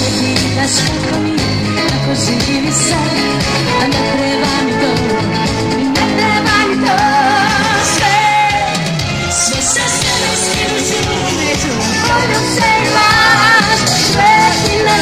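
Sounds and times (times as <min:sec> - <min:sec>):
live band music with singer: 0:00.0 - 0:15.0
wavering lead melody: 0:00.9 - 0:15.0.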